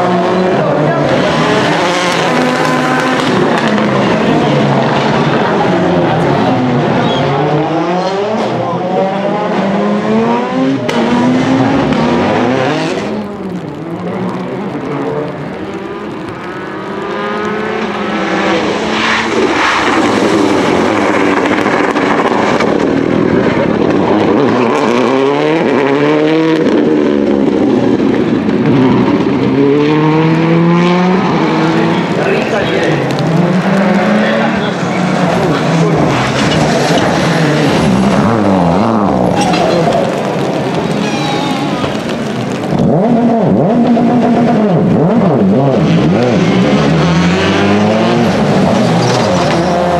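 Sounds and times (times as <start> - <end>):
rally car engines revving: 0.0 - 49.9.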